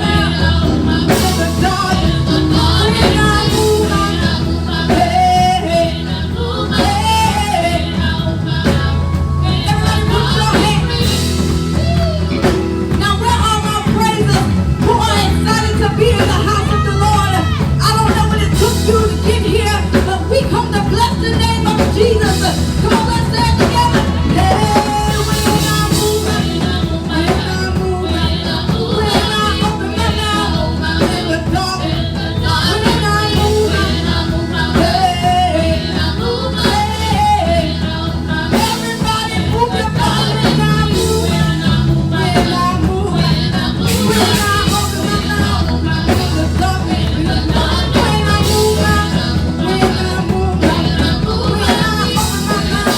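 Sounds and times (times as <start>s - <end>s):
steady bass line: 0.0s - 52.9s
worship singing over a band: 0.0s - 52.9s.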